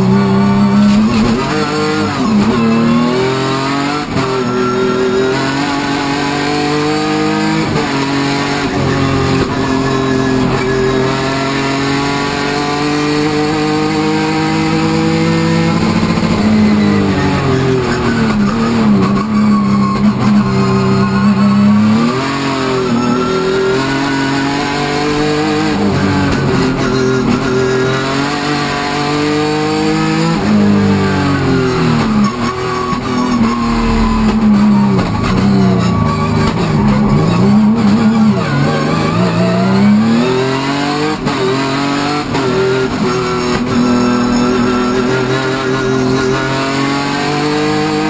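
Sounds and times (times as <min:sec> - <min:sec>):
race car engine revving: 0:00.0 - 0:48.0.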